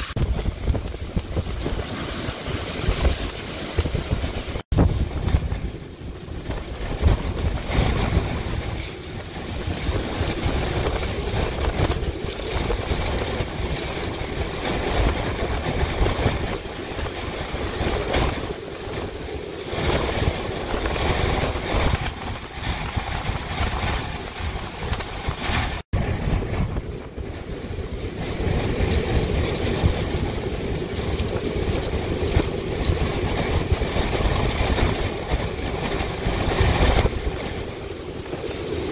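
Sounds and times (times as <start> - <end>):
wind howling in gusts: 0.0 - 38.9.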